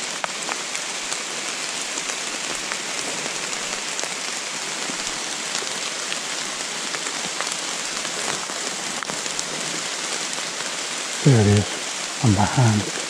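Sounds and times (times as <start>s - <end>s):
rain on leaves: 0.0s - 13.0s.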